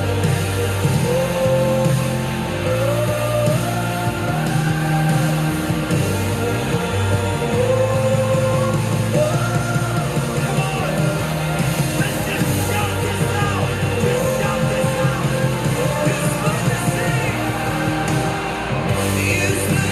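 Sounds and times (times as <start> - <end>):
sung melody: 0.0 - 19.9
worship band music: 0.0 - 19.9.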